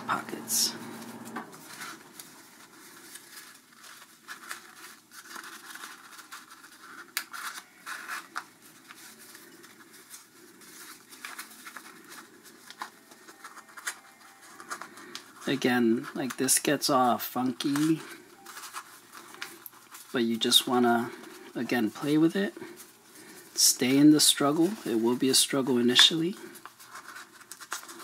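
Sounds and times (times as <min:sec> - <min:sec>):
paper rustling and crinkling: 0:00.9 - 0:28.0.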